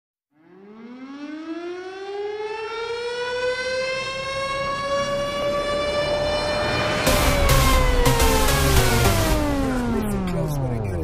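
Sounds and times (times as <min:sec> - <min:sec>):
air-raid siren winding up: 0:00.6 - 0:10.3.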